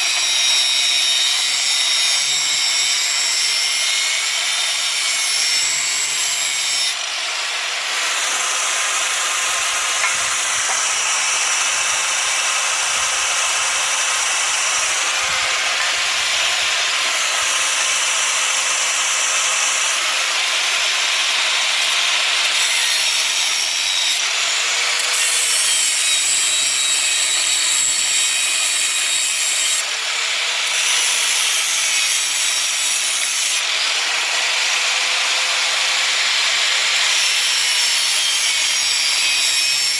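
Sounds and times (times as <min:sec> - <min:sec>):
electric grinder grinding steel: 0:00.0 - 0:39.9.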